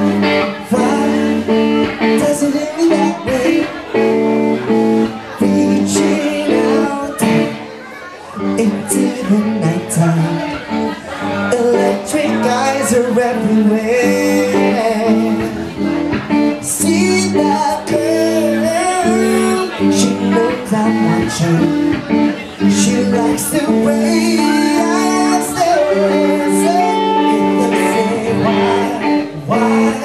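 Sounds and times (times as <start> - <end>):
live band playing pop ballad: 0.0 - 30.0
person singing: 0.0 - 30.0.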